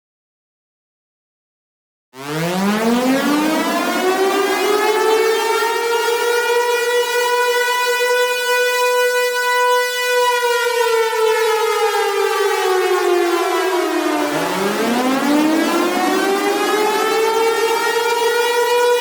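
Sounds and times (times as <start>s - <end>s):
civil defense siren wailing: 2.2s - 19.0s.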